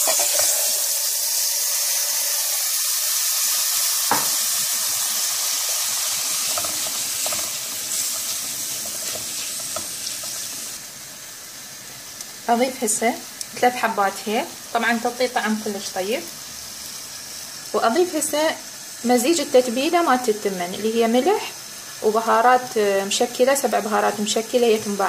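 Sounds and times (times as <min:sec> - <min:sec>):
rice sizzling in hot oil: 0:00.0 - 0:25.0.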